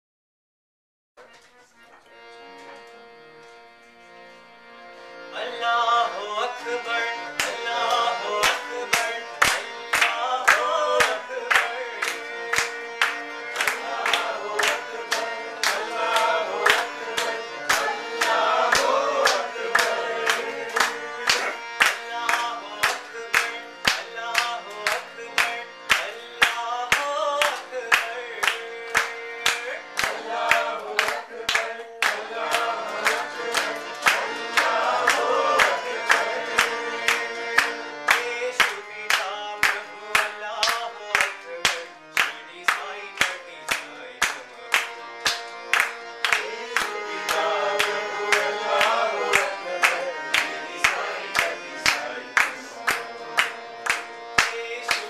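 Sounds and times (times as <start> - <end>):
harmonium: 1.2 - 55.0
person singing: 5.3 - 12.9, 13.7 - 44.6, 46.3 - 55.0
people clapping along: 6.2 - 55.0.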